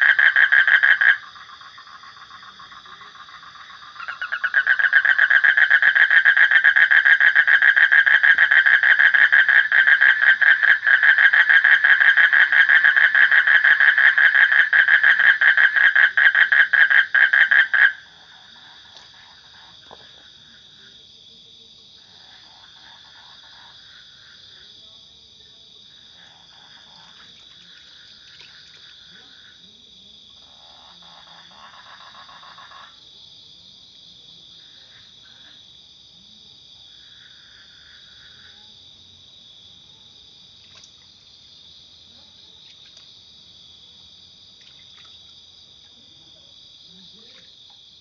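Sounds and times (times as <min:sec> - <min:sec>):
frogs croaking: 0:00.0 - 0:48.0
night insects trilling: 0:00.0 - 0:48.0.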